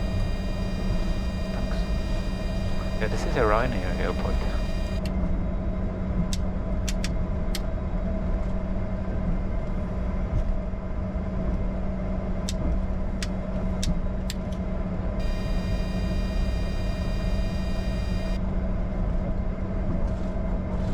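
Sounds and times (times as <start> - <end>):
jet cockpit hum and rumble: 0.0 - 20.9.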